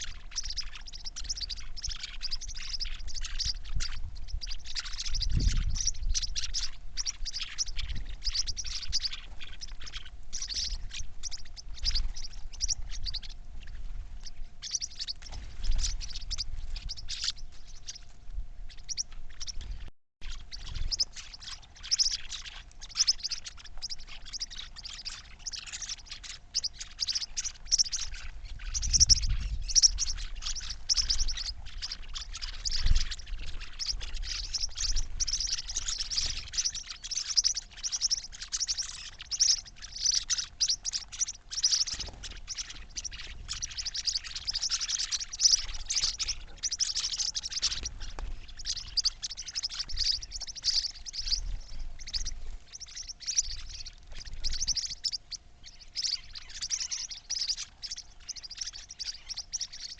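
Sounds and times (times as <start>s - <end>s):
faint steady hum: 0.0s - 59.9s
small birds chirping: 0.0s - 59.9s.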